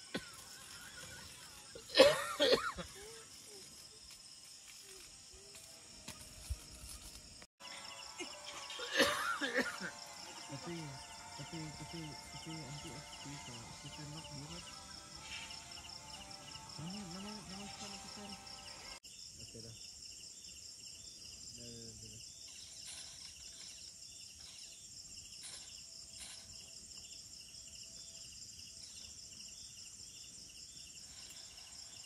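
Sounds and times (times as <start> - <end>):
insects chorusing: 0.0 - 32.0.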